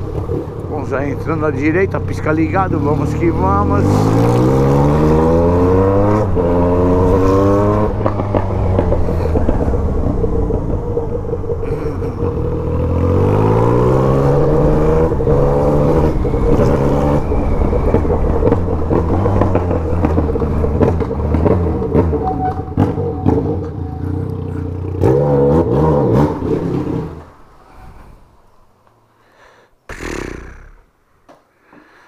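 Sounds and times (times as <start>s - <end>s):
motorcycle engine accelerating: 0.0s - 27.4s.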